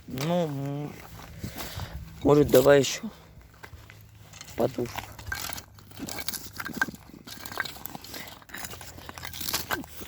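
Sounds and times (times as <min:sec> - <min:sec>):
feet crunching and scraping soil: 0:00.0 - 0:10.0.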